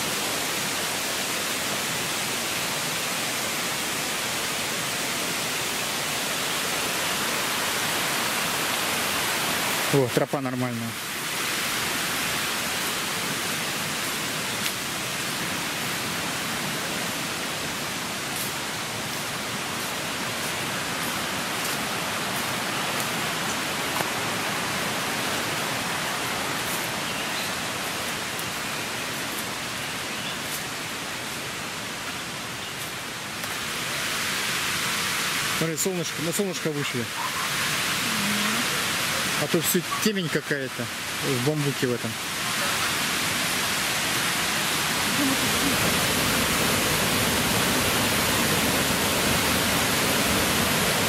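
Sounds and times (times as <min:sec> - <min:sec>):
water rushing in a stream: 0:00.0 - 0:51.0.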